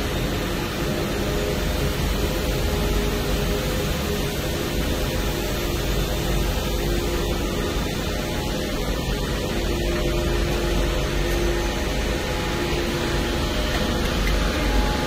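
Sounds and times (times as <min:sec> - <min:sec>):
fans and ventilation rushing: 0:00.0 - 0:15.0
low steady hum: 0:00.0 - 0:15.0.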